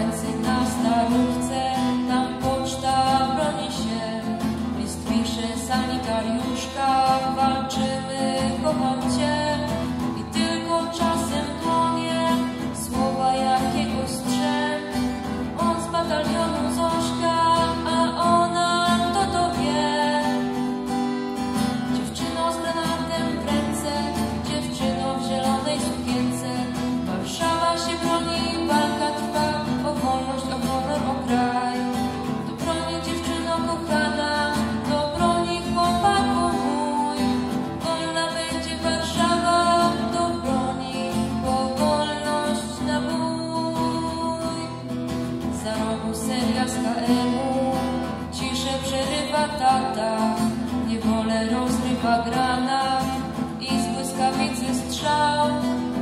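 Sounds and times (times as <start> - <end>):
girl singing into microphone: 0.0 - 56.0
strummed acoustic guitar: 0.0 - 56.0.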